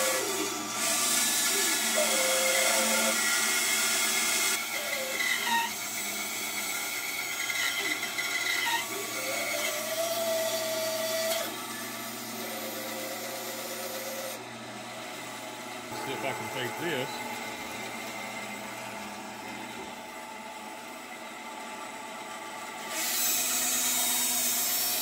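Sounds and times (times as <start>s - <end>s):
bandsaw cutting wood: 0.0s - 20.5s, 22.8s - 25.0s.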